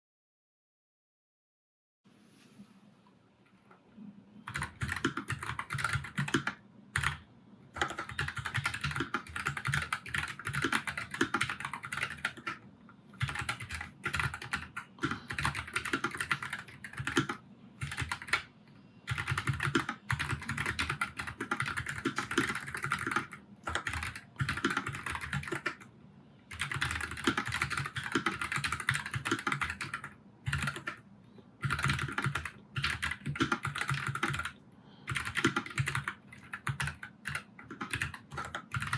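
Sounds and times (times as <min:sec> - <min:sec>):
mechanical keyboard typing: 0:04.4 - 0:12.6, 0:13.2 - 0:18.5, 0:19.1 - 0:25.9, 0:26.5 - 0:31.0, 0:31.6 - 0:38.9.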